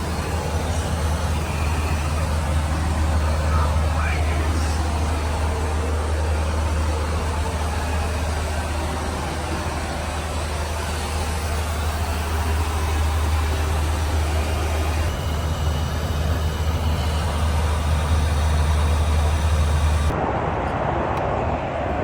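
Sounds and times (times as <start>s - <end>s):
airplane engine drone in cabin: 0.0s - 22.0s.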